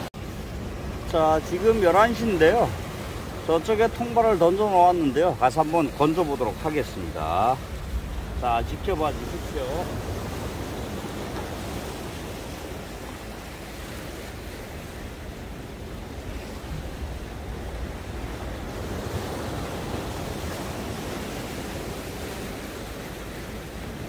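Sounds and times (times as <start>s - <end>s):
rough sea surf breaking: 0.0s - 24.0s.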